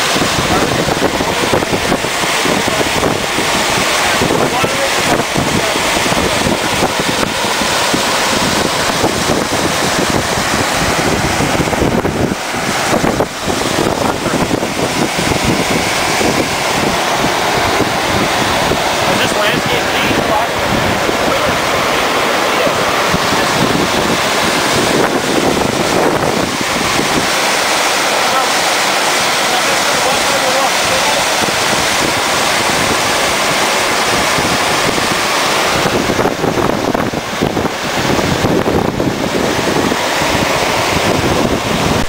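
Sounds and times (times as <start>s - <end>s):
steam vent hissing: 0.0s - 42.0s
stream running over rocks: 0.0s - 42.0s
wind buffeting microphone: 0.0s - 42.0s.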